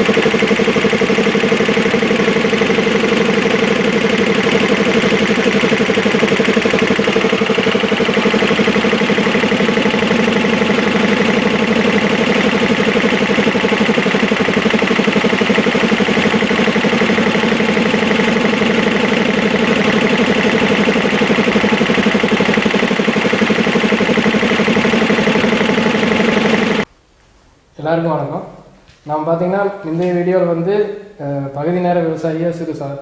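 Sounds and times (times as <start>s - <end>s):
air compressors running pulsing: 0.0s - 26.9s.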